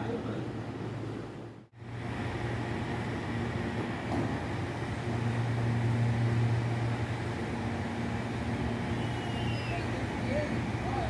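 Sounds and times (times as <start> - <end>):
electric train humming: 1.8 - 11.0.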